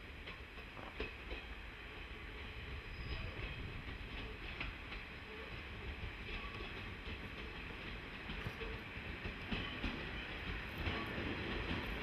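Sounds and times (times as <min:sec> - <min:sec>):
train wheels clicking over rail joints: 0:00.0 - 0:01.6, 0:02.9 - 0:12.0
diesel railcar engine rumble: 0:00.0 - 0:12.0.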